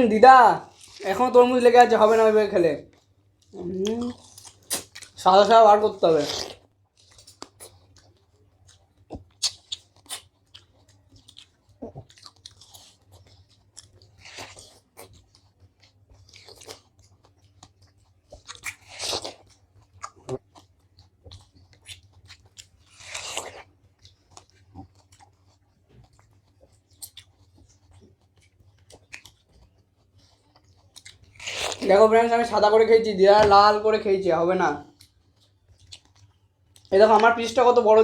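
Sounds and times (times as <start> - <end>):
biting and chewing watermelon: 0.0 - 38.0.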